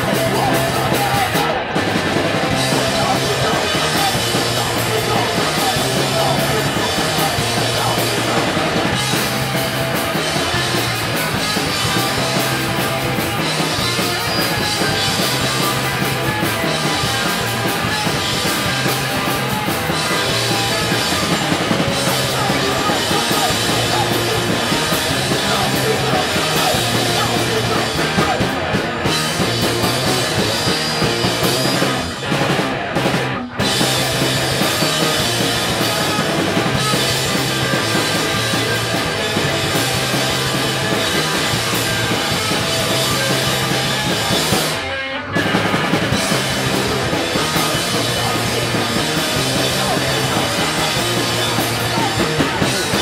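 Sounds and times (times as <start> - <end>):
drum kit: 0.0 - 53.0
electric guitars: 0.0 - 53.0.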